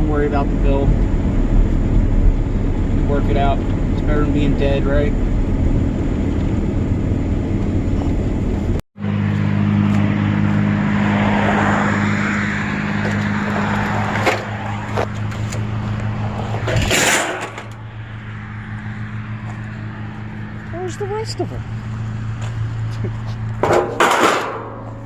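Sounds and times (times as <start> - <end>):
road noise: 0.0 - 25.0
vehicle engine running: 0.0 - 25.0.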